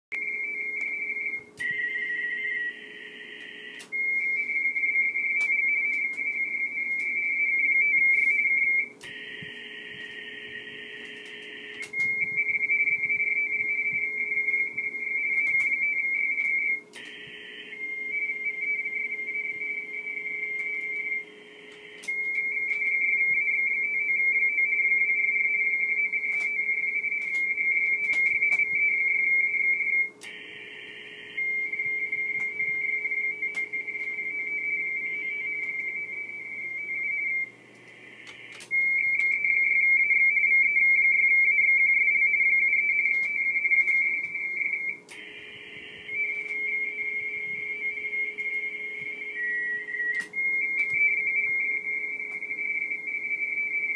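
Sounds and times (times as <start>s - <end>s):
two-tone radio data warble: 0.2s - 53.9s
radio band hiss: 0.5s - 53.9s.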